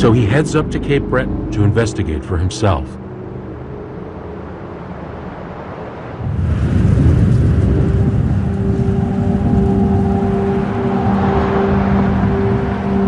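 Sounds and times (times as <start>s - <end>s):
steady held tones: 0.0s - 6.2s, 7.7s - 13.0s
vehicle low rumble: 0.0s - 13.0s.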